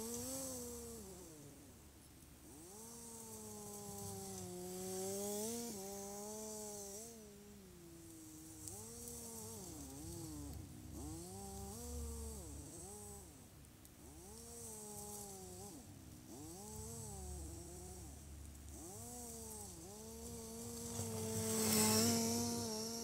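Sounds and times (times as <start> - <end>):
faint atv engine revving: 0.0 - 23.0.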